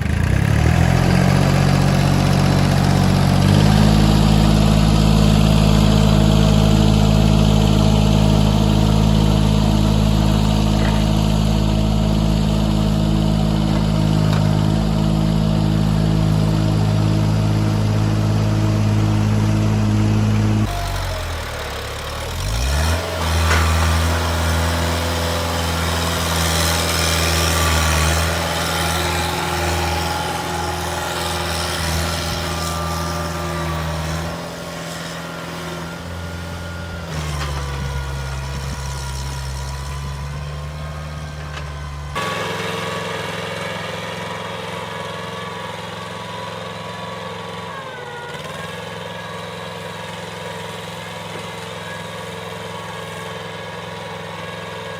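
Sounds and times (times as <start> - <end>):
mini tractor engine running: 0.0 - 54.9.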